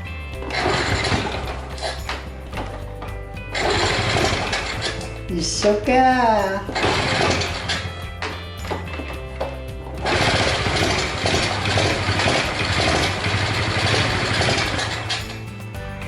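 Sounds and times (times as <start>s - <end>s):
small engine clattering: 0.0s - 15.8s
background music: 0.0s - 16.0s.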